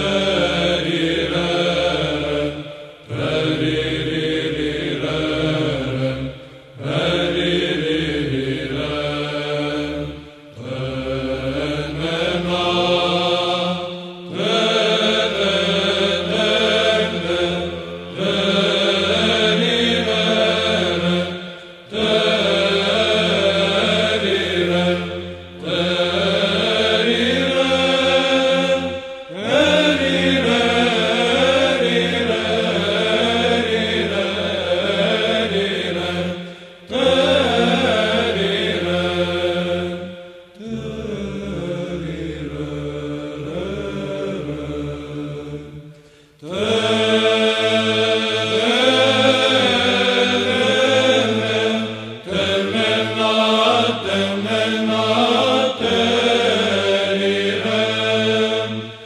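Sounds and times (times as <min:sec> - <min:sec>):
low vocal drone: 0:00.0 - 0:59.0
men chanting melody: 0:00.0 - 0:59.0.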